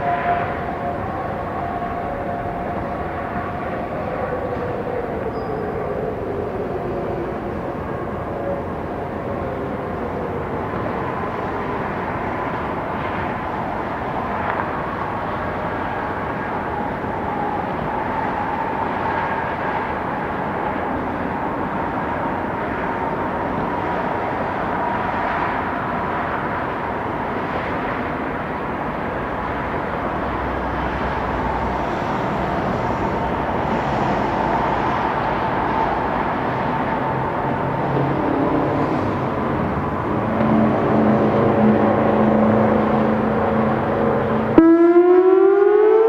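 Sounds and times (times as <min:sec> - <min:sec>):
distant sirens: 0:00.0 - 0:46.0
warning siren steady tone: 0:00.0 - 0:46.0.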